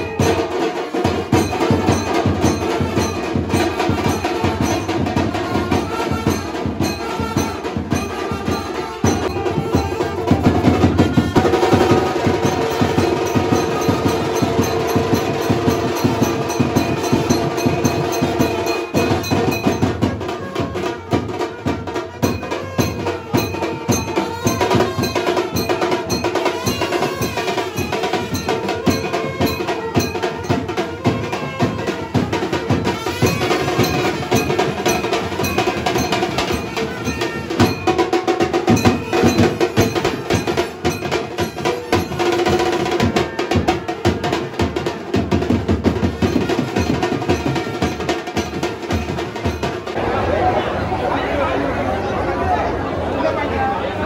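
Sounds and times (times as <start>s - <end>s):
fast dense drumming: 0.0s - 50.1s
held melody line: 0.0s - 50.5s.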